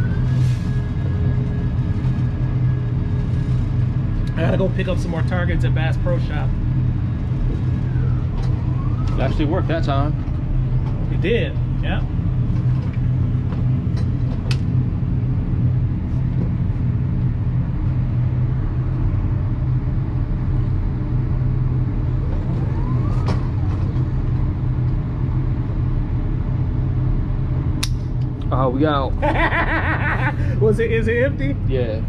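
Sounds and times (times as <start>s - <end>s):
low droning hum: 0.0s - 32.0s.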